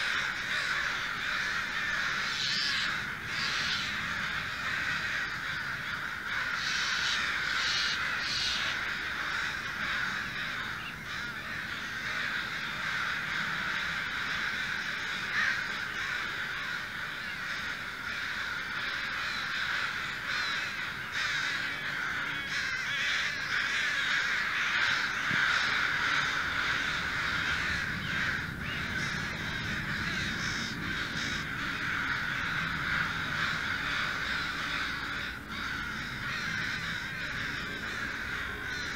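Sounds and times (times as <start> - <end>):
crows cawing: 0.0 - 38.9.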